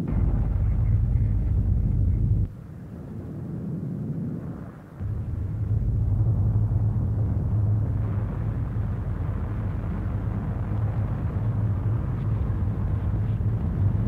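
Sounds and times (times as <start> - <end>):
dull hiss: 0.0 - 14.0
steady low rumble: 0.0 - 14.0.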